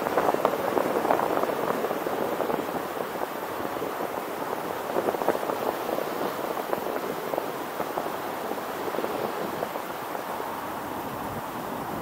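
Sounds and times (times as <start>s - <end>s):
road noise: 0.0s - 12.0s
rushing wind: 0.0s - 12.0s.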